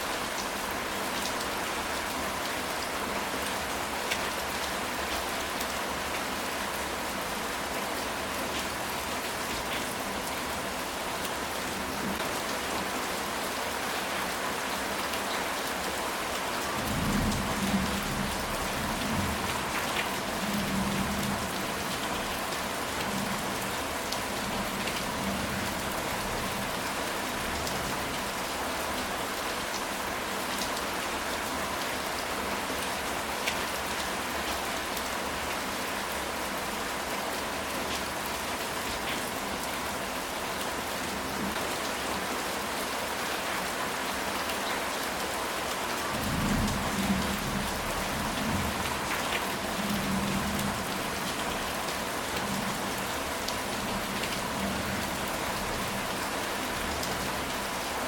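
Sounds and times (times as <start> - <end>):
rain on a tile roof: 0.0 - 58.0.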